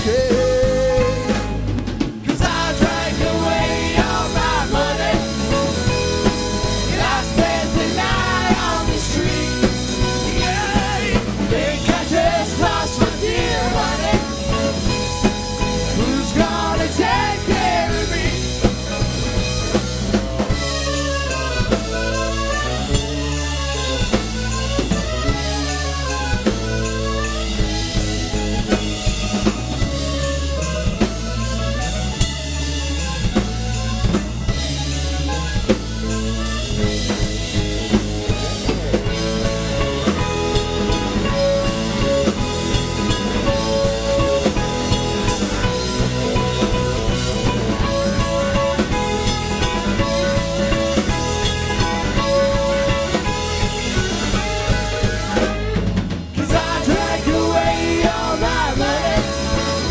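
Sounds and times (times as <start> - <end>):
drum kit beat with rimshots: 0.0 - 59.9
repeating held notes: 0.0 - 59.9
rock band playing live: 0.0 - 59.9.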